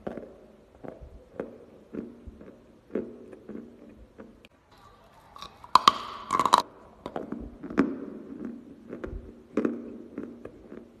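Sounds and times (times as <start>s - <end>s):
chewing with crunches: 0.0s - 11.0s
crunch of biting clay: 0.0s - 11.0s.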